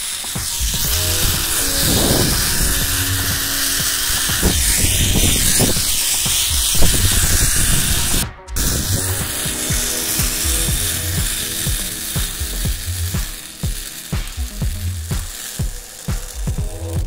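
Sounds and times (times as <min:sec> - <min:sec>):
zip-line pulleys rattling on cable: 0:00.0 - 0:17.0.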